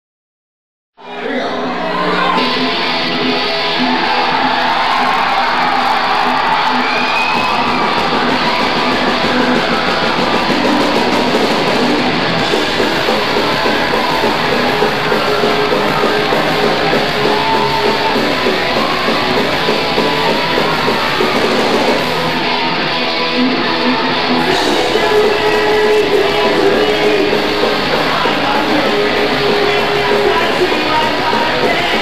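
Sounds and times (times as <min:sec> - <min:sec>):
punk rock band playing: 0:01.7 - 0:32.0.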